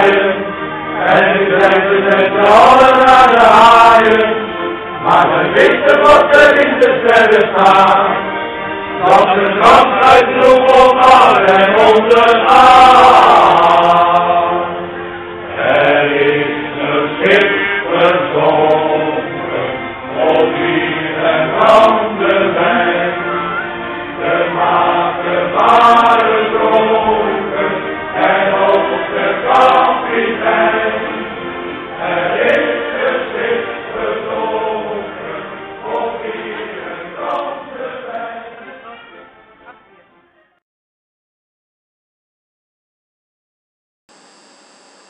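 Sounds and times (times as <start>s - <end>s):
men's choir singing shanty: 0.0s - 39.0s.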